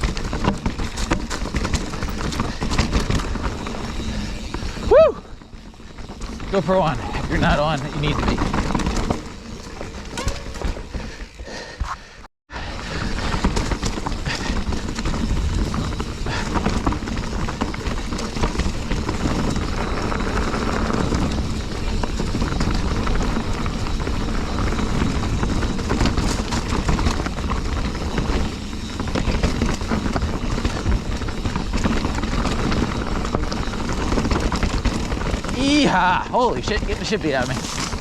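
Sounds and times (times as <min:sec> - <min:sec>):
mountain bike rattling over rocks: 0:00.0 - 0:11.7, 0:12.6 - 0:38.0.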